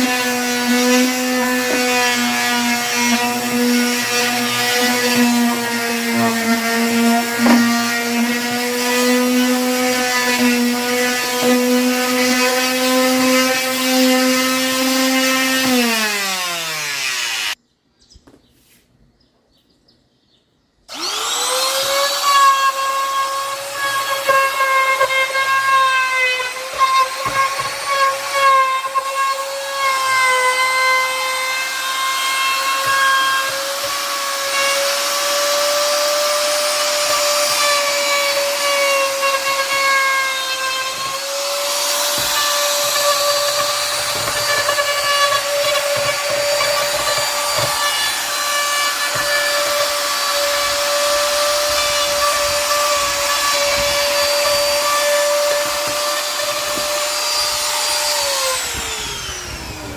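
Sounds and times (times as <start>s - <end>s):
power tool motor whine: 0.0s - 17.6s, 20.9s - 59.9s.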